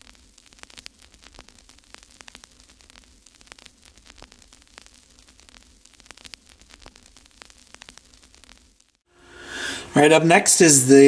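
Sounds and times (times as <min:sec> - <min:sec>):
crackling static clicks and pops: 0:00.0 - 0:09.1
steady hiss: 0:00.0 - 0:11.0.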